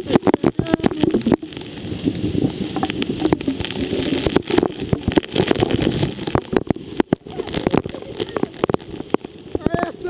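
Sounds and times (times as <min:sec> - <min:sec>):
spray crackling on microphone: 0:00.0 - 0:10.0
waterfall pouring and splashing: 0:00.0 - 0:10.0.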